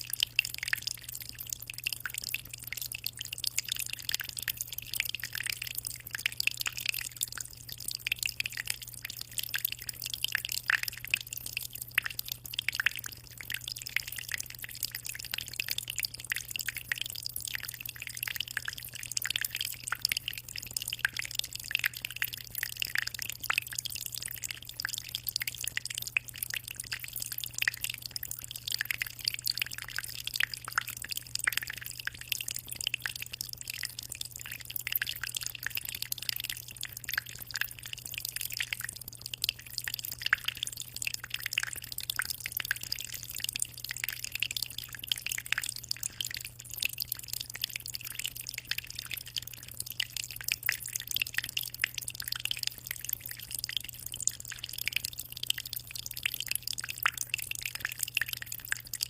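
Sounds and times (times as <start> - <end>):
aquarium water trickling: 0.0 - 59.0.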